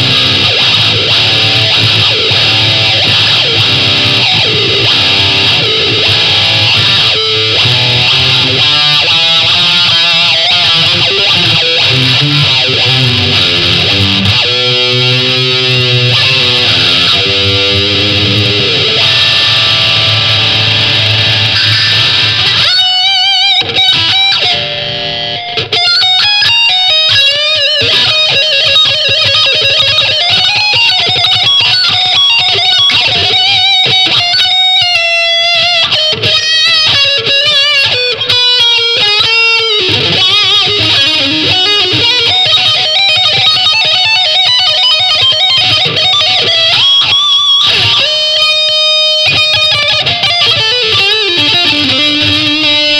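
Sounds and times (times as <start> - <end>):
electric guitar chord ringing: 0.0 - 52.9
electric guitar lead lines: 0.0 - 52.9.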